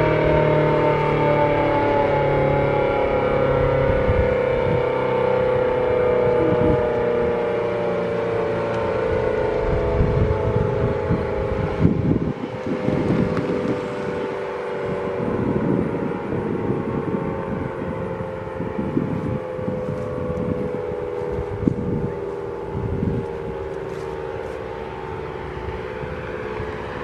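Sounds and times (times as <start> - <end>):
warning siren steady tone: 0.0 - 27.0
wind gusts on microphone: 1.3 - 7.6, 8.9 - 24.7.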